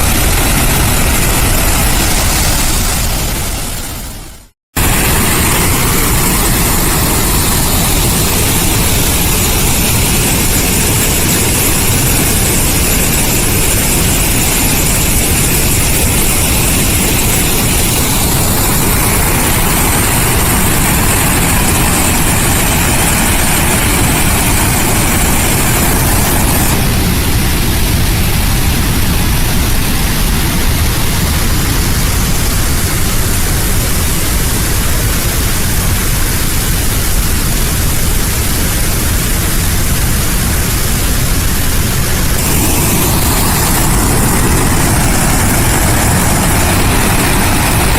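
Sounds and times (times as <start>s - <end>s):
rush of water from dam outlet: 0.0s - 47.9s.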